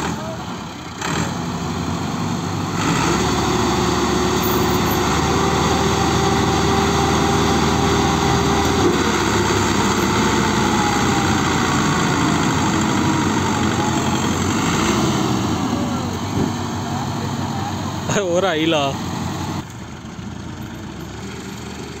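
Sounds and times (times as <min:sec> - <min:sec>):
tractor diesel engines under load: 0:00.0 - 0:22.0.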